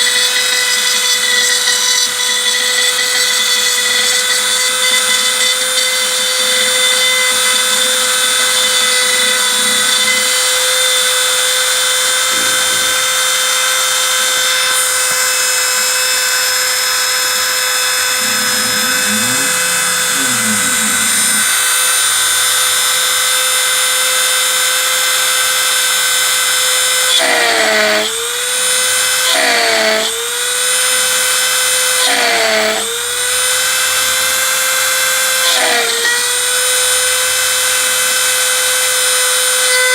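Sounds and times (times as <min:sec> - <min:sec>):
bit cutting aluminium hiss: 0:00.0 - 0:39.9
router spindle whining: 0:00.0 - 0:39.9.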